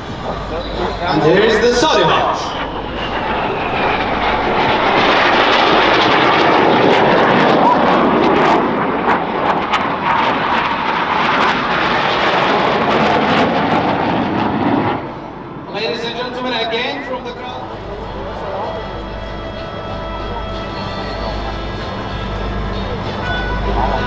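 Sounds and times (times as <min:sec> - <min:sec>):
jets flying past: 0:00.0 - 0:24.0.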